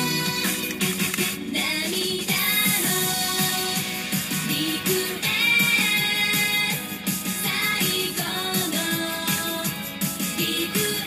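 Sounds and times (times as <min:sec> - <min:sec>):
pop song through car stereo: 0:00.0 - 0:11.0.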